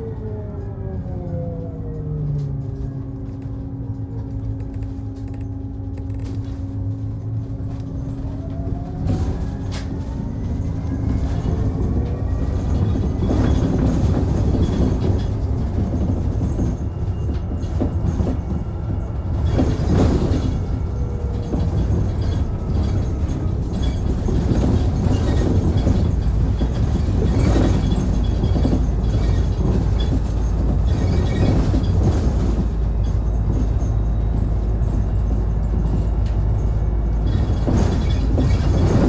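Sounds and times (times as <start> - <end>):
bus low rumble: 0.0 - 39.0
interior rattles and knocks: 2.5 - 39.0.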